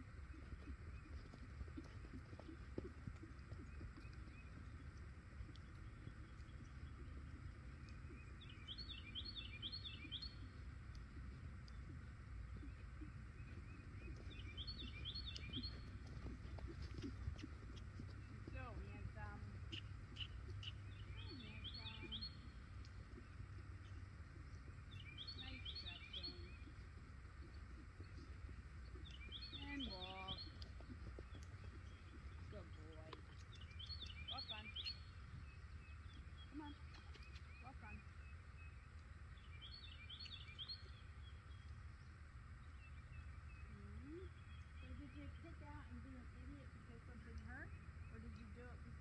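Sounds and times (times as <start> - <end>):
low outdoor rumble: 0.0 - 49.0
songbird singing: 0.0 - 49.0
small bird chirping: 0.3 - 48.9.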